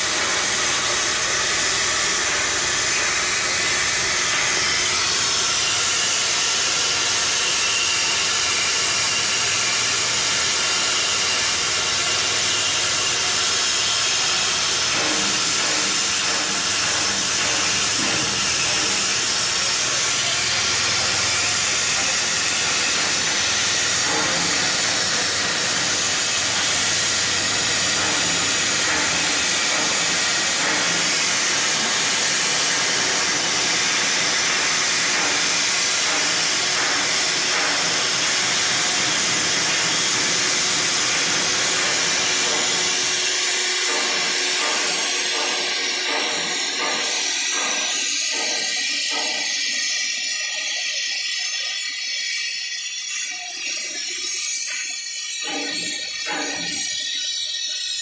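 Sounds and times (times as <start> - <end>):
cutting torch hissing: 0.0 - 58.0.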